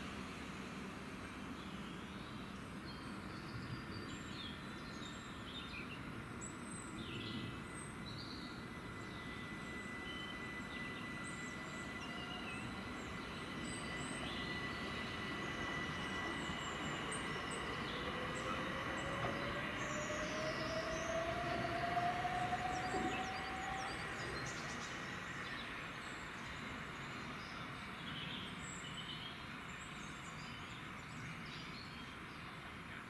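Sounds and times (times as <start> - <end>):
electric train approaching: 0.0 - 32.9.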